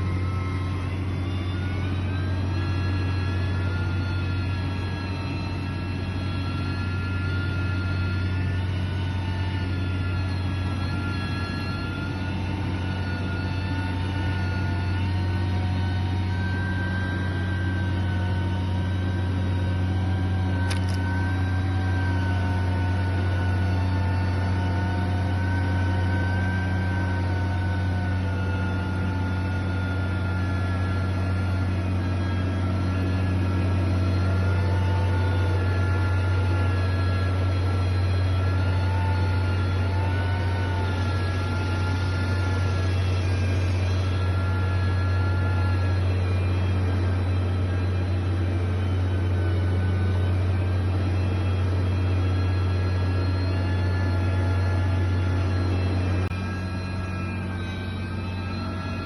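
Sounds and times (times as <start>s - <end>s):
thin wavering whines: 0.0s - 59.0s.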